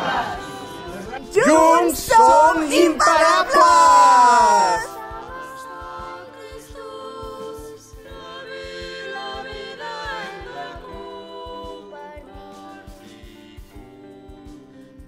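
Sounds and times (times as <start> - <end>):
voices singing in harmony: 0.0 - 15.0.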